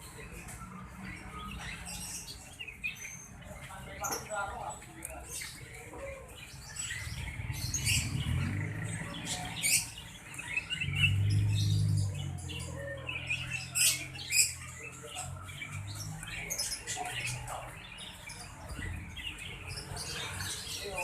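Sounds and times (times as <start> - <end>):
small bird chirping: 0.2 - 21.0.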